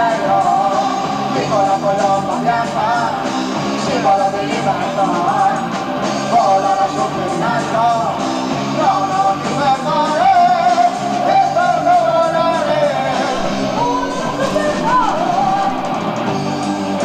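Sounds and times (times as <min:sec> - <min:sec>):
progressive rock band playing: 0:00.1 - 0:11.9, 0:12.6 - 0:17.0.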